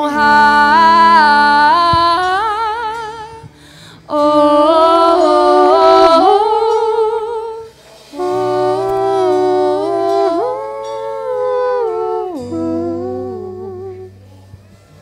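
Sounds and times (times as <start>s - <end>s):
voice singing long ooh notes: 0.0s - 14.6s
sustained keyboard chords: 0.0s - 15.0s.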